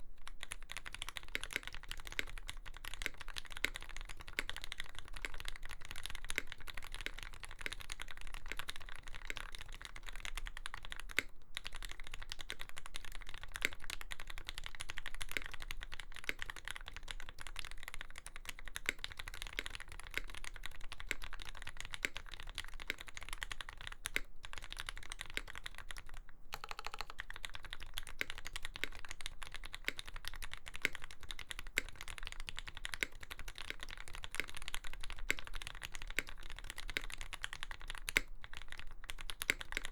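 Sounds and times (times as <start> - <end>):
mechanical keyboard typing: 0.3 - 39.9.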